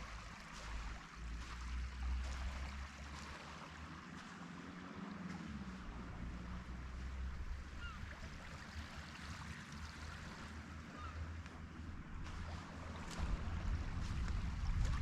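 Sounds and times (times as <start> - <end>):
sea water lapping: 0.0 - 15.0.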